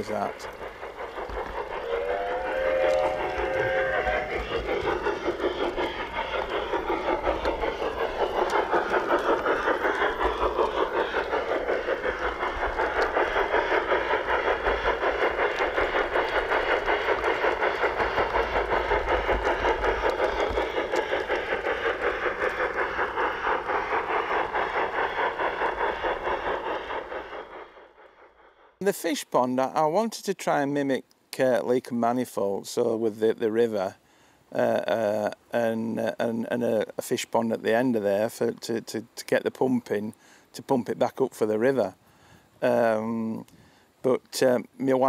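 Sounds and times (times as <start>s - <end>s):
model locomotive steam chuff: 0.0s - 45.0s
wheels on rails: 0.0s - 45.0s.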